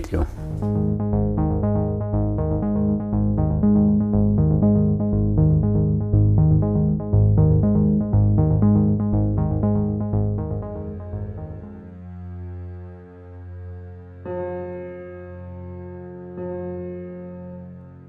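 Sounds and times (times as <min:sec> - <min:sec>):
soft synthesizer and keyboard music: 0:00.0 - 0:18.0.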